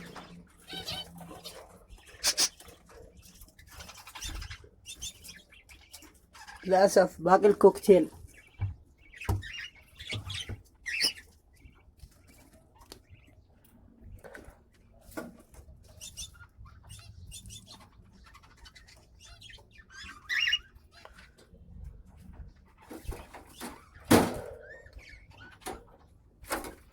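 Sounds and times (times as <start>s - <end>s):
parrots chirping: 0.0s - 13.6s, 15.7s - 26.0s.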